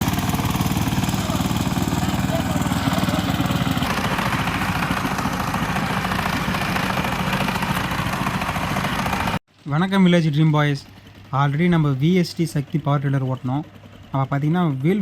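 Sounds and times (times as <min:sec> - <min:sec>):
diesel engine chugging: 0:00.0 - 0:15.0.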